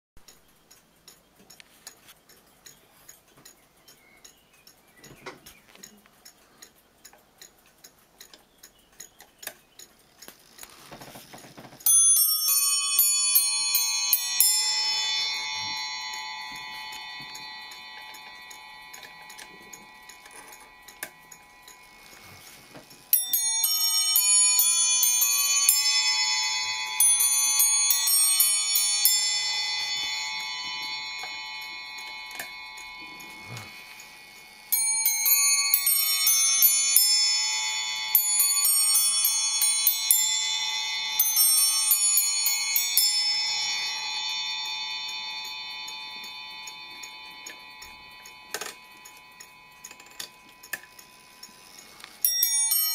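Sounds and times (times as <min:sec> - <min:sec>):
clock ticking: 0:00.2 - 0:52.9
clock chiming on bells: 0:10.2 - 0:52.9.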